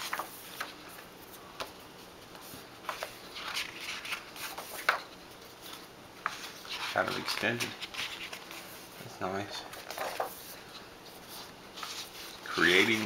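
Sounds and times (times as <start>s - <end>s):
magazine pages turning: 0.0s - 1.1s, 2.8s - 8.9s, 9.7s - 13.0s.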